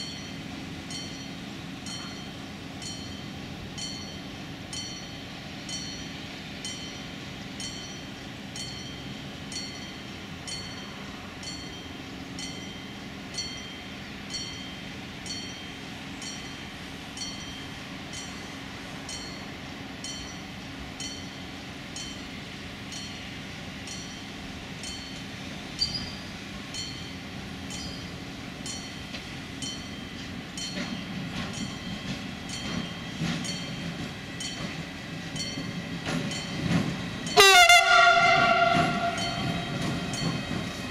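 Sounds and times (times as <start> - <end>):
electric locomotive hum: 0.0 - 40.9
train rumble and wheel clatter: 0.0 - 40.9.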